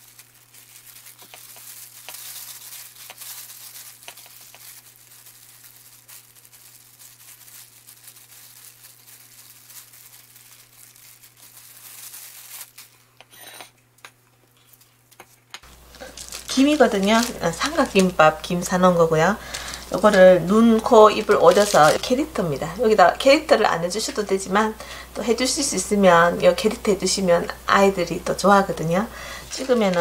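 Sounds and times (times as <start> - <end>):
plastic gloves crinkling: 0.0 - 13.3, 14.5 - 30.0.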